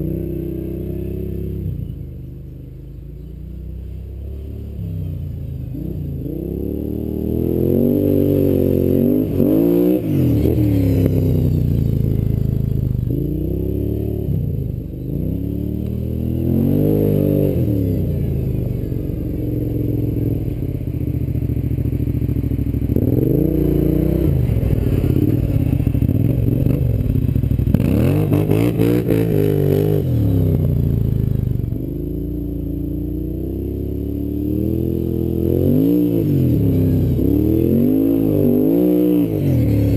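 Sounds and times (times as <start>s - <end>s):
atv engine revving: 0.0s - 2.1s, 3.6s - 39.9s.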